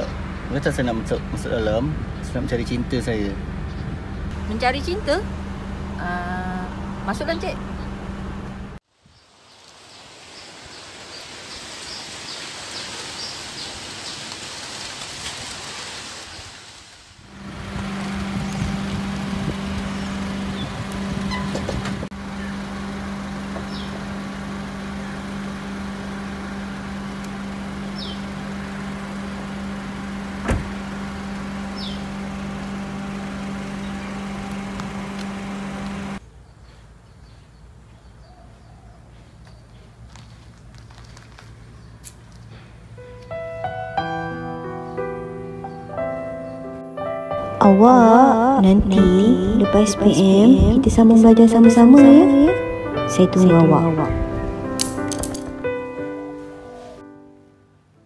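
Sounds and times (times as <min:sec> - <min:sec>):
car moving slowly: 0:00.0 - 0:46.9.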